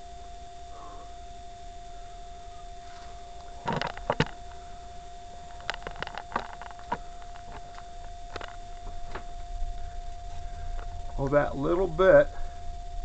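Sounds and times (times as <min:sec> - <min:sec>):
thin electrical whine: 0:00.0 - 0:13.0.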